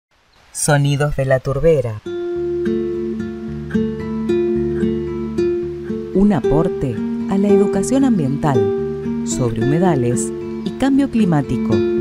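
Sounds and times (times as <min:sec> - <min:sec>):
plucked guitar notes: 0:02.0 - 0:12.0.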